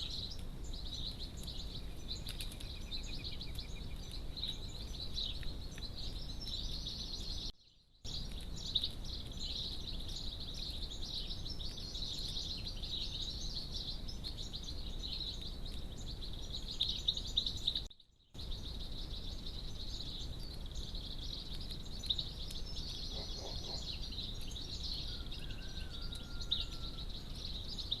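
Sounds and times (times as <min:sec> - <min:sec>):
birds chirping and twittering: 0:00.0 - 0:28.0.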